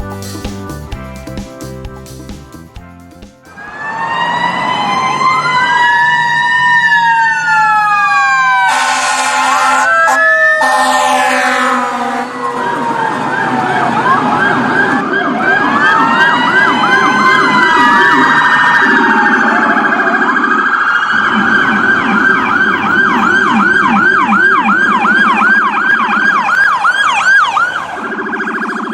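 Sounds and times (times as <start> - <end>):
electronic siren yelping: 3.5 - 28.9
lower siren tone: 3.5 - 28.9.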